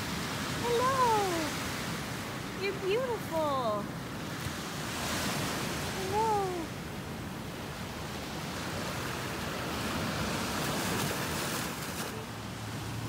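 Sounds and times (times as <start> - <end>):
ocean waves washing onto beach: 0.0 - 13.0.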